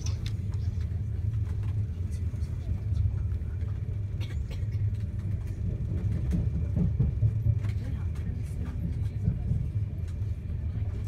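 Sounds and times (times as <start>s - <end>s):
low rumble inside train coach: 0.0s - 11.0s.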